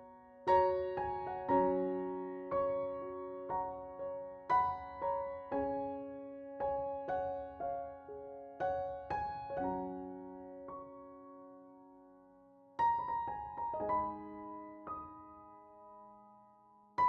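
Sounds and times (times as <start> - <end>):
slow gentle piano: 0.0 - 17.0.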